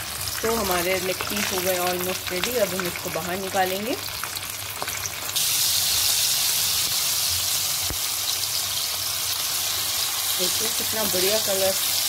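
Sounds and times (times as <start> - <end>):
chicken deep-frying in hot oil: 0.0 - 12.0.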